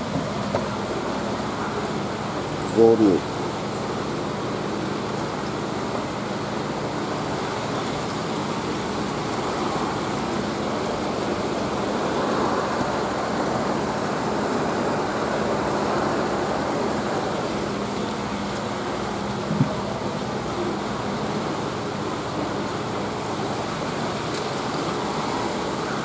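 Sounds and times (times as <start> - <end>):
running water and aeration: 0.0 - 26.0.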